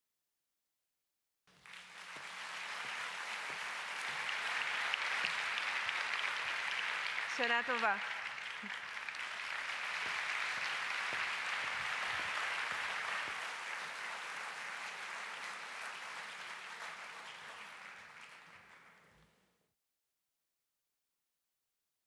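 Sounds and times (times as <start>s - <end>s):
audience applauding: 1.5s - 19.3s.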